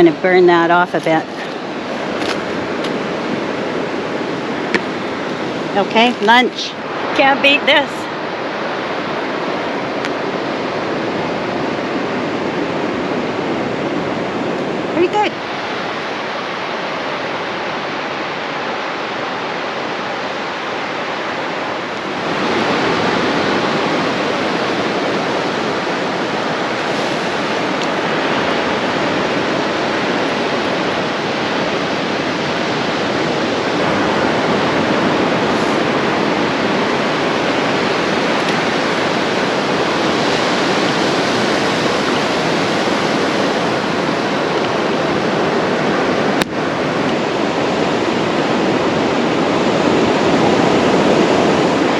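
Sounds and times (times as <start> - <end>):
ocean surf breaking: 0.0 - 51.9.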